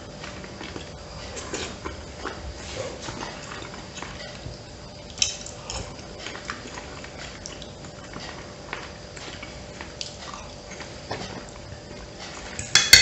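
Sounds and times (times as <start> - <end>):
chewing: 0.1 - 12.5.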